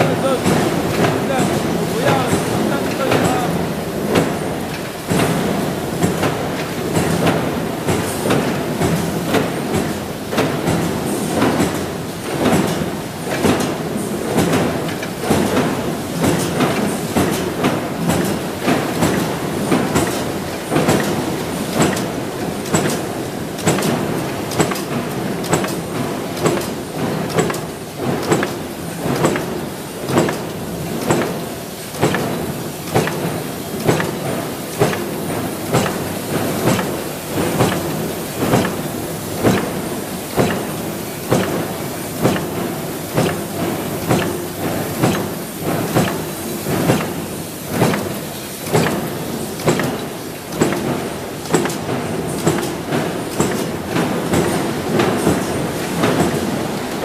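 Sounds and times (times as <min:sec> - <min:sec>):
machinery clatter: 0:00.0 - 0:57.0.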